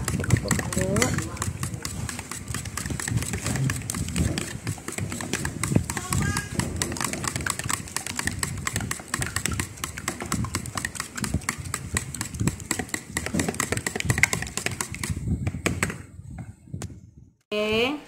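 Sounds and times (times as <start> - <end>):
fork beating eggs in plastic bowl: 0.0 - 16.0.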